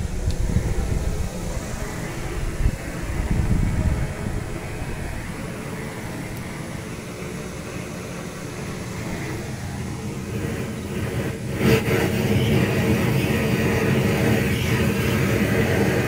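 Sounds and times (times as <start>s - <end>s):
fire crack: 0.0s - 16.0s
fire rumbling in barrel: 0.0s - 16.0s.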